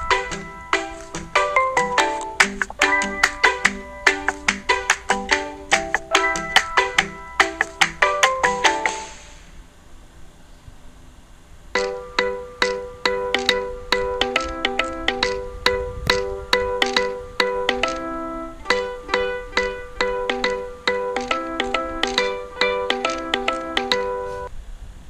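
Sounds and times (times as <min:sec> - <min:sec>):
phone ringtone melody: 0:00.0 - 0:09.4, 0:11.8 - 0:24.5.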